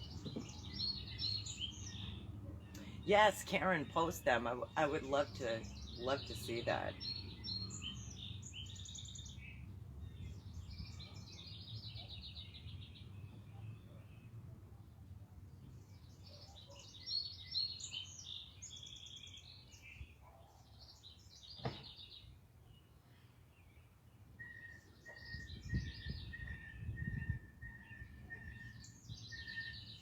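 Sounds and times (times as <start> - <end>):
songbirds chirping and trilling: 0.0 - 30.0.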